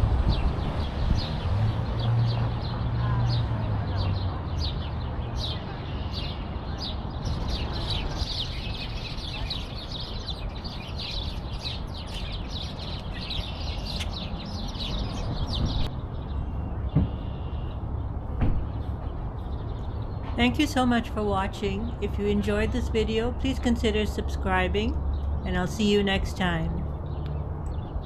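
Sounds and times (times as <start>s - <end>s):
songbirds chirping: 0.1s - 28.0s.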